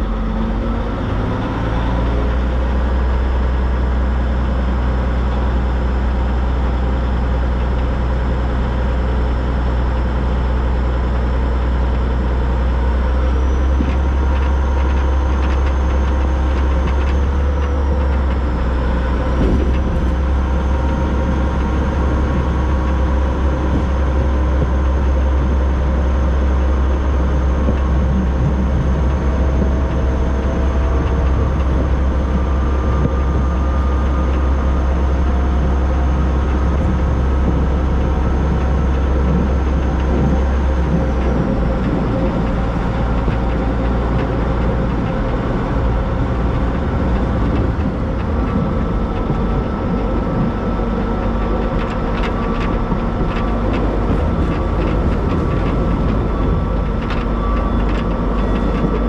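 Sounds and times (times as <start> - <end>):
steam train rumbling on track: 0.0 - 59.0.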